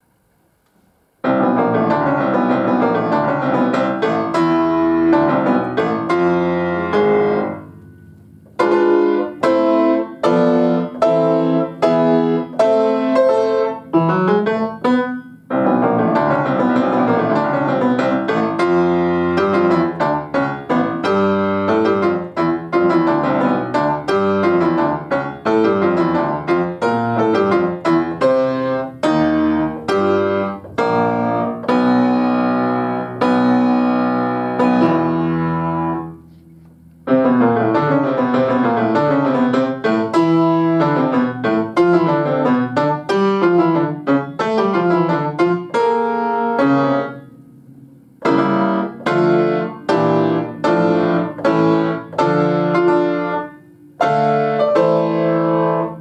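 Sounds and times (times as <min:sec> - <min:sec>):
solo piano playing: 0:01.2 - 0:56.0.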